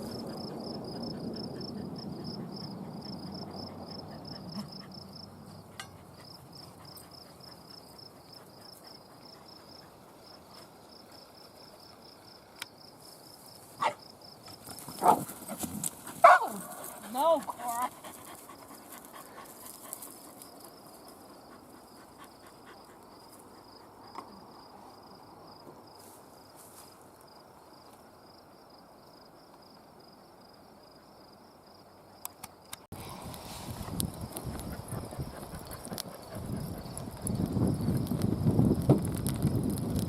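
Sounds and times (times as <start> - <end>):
faint outdoor hiss: 0.0 - 39.9
insect chirping: 0.0 - 40.0.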